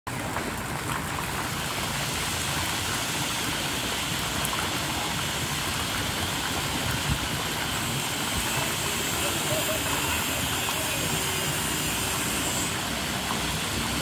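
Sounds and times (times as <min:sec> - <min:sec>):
fountain jets splashing into pool: 0:00.1 - 0:14.0.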